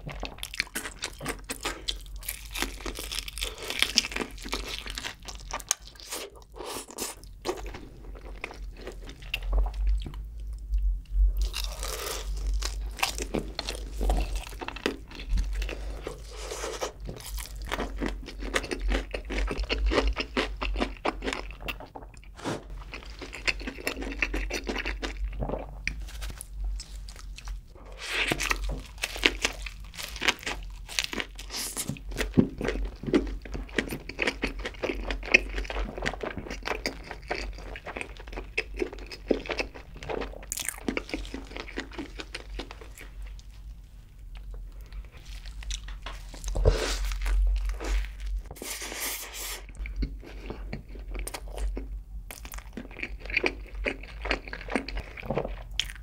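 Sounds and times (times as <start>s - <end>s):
crunching and chewing fried chicken: 0.0s - 56.0s.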